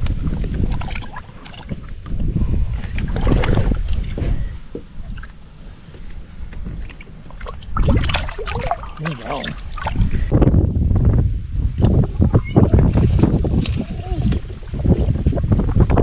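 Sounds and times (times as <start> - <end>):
water splashing against boat: 0.0 - 16.0
wind rumbling on microphone: 0.0 - 16.0.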